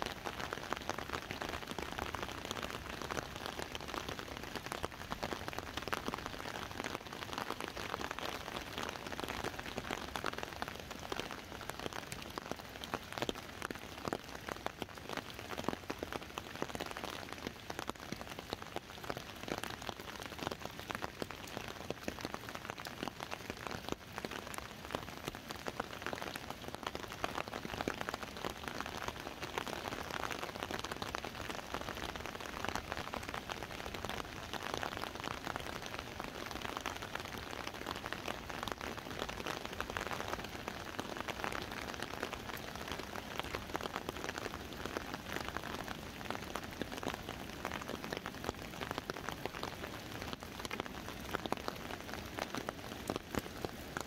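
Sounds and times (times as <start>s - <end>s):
rain hiss: 0.0s - 54.0s
rain hitting an umbrella: 0.0s - 54.0s.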